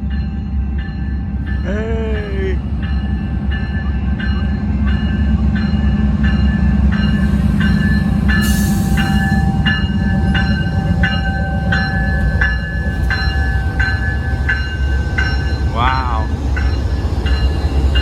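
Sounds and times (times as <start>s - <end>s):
train bell ringing: 0.0s - 18.0s
train rumbling by: 0.0s - 18.0s.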